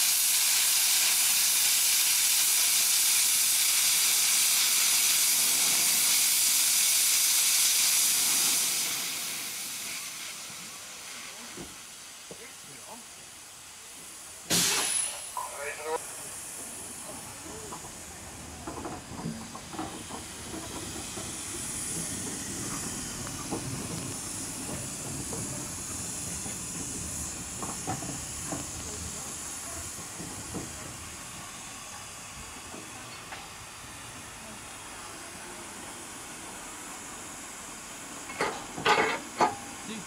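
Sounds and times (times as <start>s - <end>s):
steam locomotive hissing: 0.0s - 40.0s.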